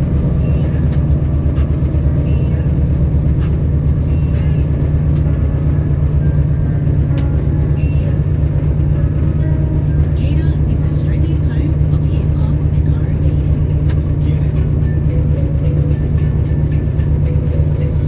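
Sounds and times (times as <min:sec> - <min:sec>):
diesel locomotive engine throbbing: 0:00.0 - 0:18.0.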